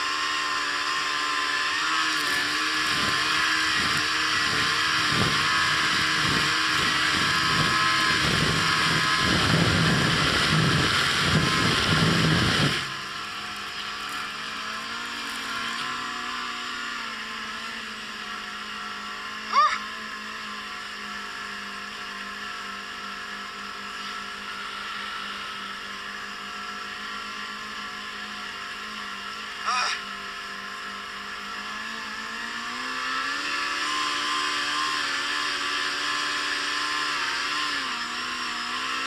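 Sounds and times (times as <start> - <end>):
snowmobile engine running: 0.0 - 39.0.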